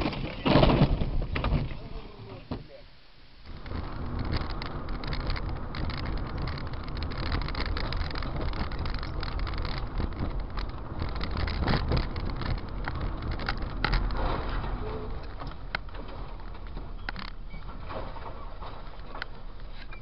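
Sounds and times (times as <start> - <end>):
car road and engine rumble: 0.0 - 20.0
light clicks and rattles: 3.5 - 20.0.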